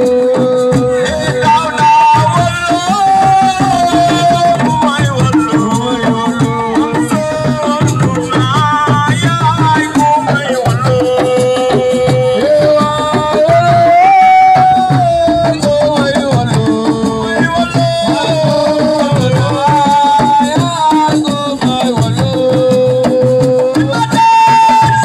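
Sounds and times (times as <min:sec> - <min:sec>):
hand drums playing rhythm: 0:00.0 - 0:25.0
person singing long notes: 0:00.0 - 0:25.0.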